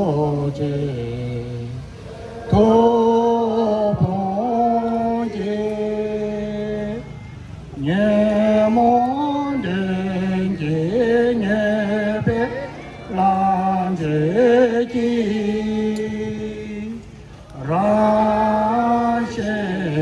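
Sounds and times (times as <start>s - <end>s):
chanting: 0.0s - 20.0s.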